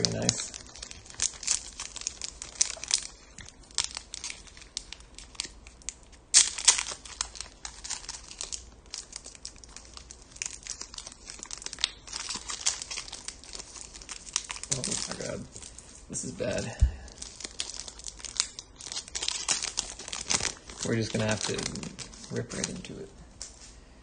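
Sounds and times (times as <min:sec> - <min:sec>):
plastic wrapper crinkling: 0:00.0 - 0:23.7.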